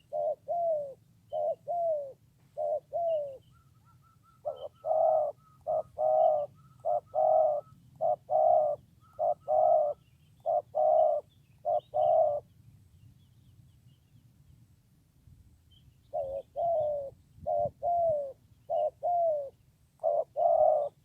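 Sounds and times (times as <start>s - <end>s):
dove cooing: 0.0s - 12.5s, 16.1s - 21.0s
small birds chirping: 0.0s - 14.8s, 15.6s - 21.0s.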